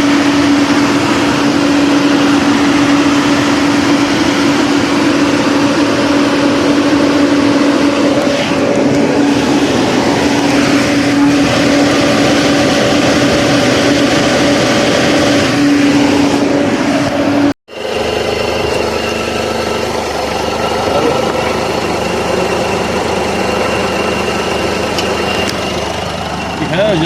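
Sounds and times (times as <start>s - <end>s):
cooling fan whirring: 0.0s - 27.0s.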